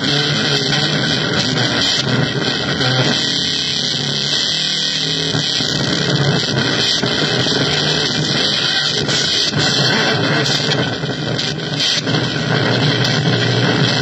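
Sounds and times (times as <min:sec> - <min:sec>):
harsh electronic noise music: 0:00.0 - 0:14.0.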